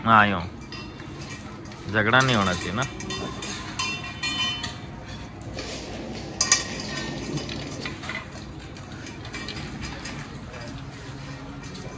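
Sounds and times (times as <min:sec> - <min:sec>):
metal bowls clinking: 0:00.4 - 0:11.9.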